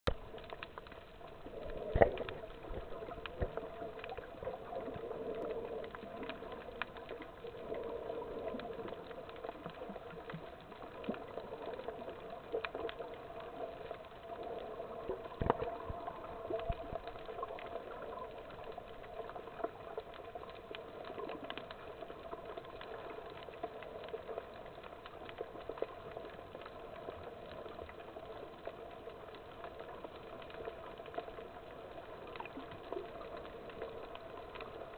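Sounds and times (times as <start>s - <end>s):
muffled underwater noise: 0.1s - 34.9s
small underwater clicks and crackles: 0.1s - 34.9s.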